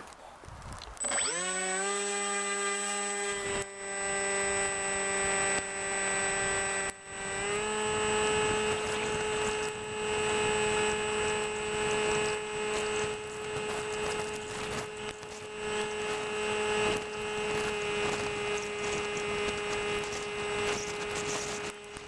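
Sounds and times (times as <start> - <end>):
model aircraft motor buzzing whine: 0.9 - 22.0.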